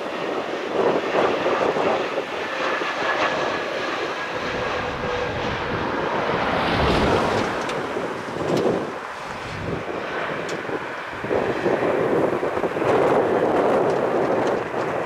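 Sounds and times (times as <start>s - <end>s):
jet airliner roar: 0.0s - 15.0s
wind buffeting microphone: 0.0s - 15.0s.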